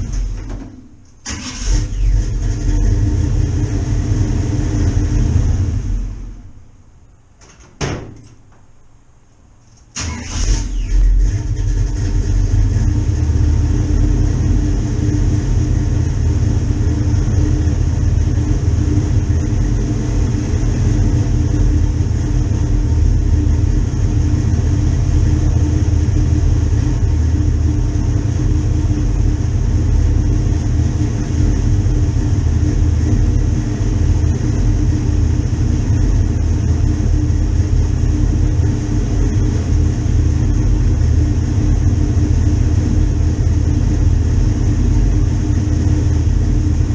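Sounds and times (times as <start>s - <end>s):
vehicle engine idling: 0.0s - 7.4s, 8.1s - 46.9s.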